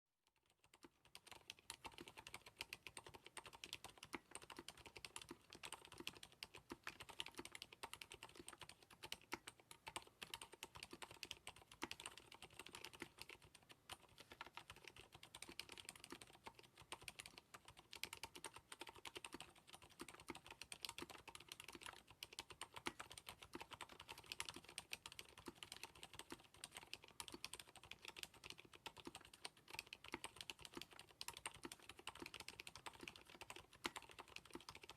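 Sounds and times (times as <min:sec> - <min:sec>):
soft muted keyboard typing: 0:00.2 - 0:34.9.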